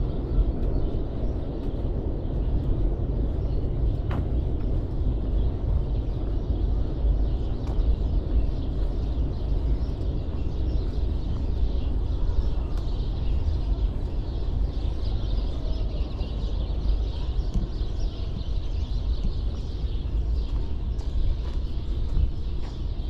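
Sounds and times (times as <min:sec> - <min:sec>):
small birds chirping: 0:00.0 - 0:23.0
steady low rumble: 0:00.0 - 0:23.0.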